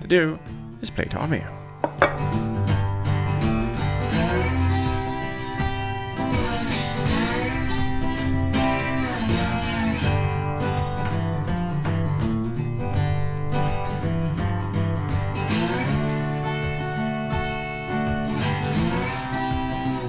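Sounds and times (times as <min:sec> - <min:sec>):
acoustic guitar music with sliding notes: 0:01.5 - 0:20.0.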